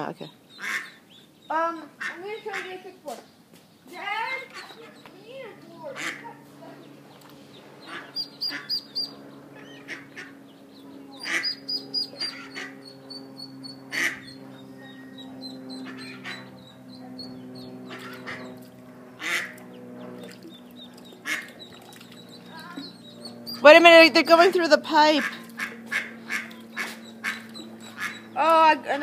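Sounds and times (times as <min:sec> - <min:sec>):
ducklings peeping: 0:00.0 - 0:29.0
steady low hum: 0:00.0 - 0:29.0.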